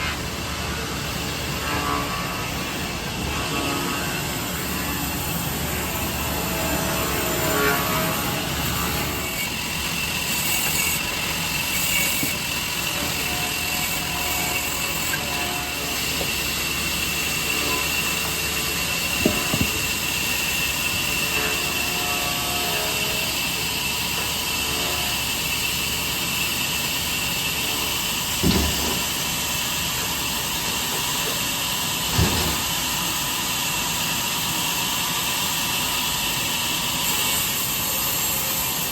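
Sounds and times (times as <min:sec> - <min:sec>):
workshop machine whine: 0:00.0 - 0:38.9.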